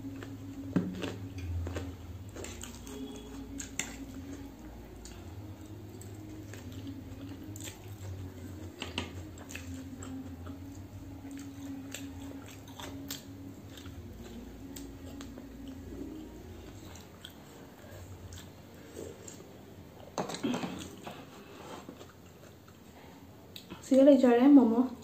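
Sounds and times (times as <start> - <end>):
steady low hum: 0.0 - 23.8
chewing and wet mouth sounds: 0.0 - 23.9.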